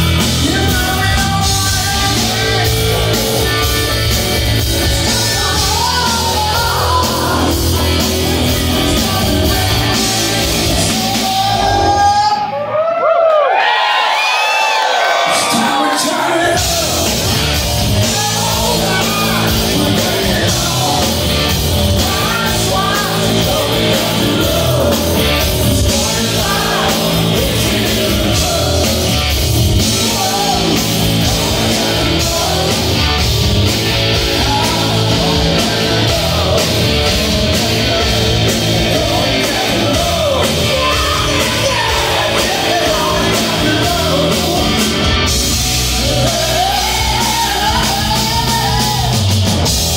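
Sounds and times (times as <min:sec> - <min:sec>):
man singing lead vocal: 0:00.0 - 0:12.6, 0:15.1 - 0:49.8
rock band playing live: 0:00.0 - 0:12.8, 0:14.0 - 0:49.9.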